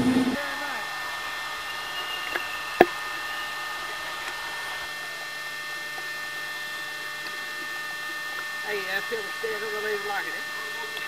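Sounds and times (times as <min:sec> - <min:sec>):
faint steady tones: 0:00.0 - 0:11.0
steady hum and hiss: 0:00.0 - 0:11.0.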